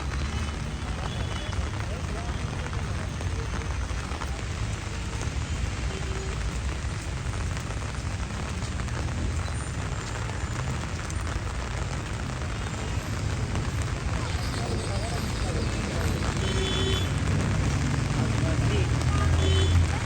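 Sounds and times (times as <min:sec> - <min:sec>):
heavy rain rushing: 0:00.0 - 0:20.0.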